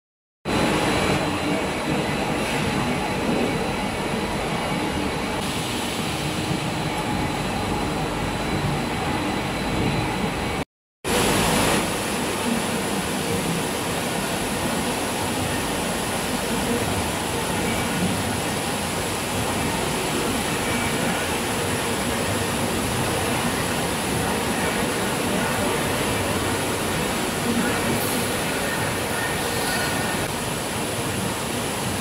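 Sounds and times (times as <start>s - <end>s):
factory machinery rumble: 0.5s - 32.0s.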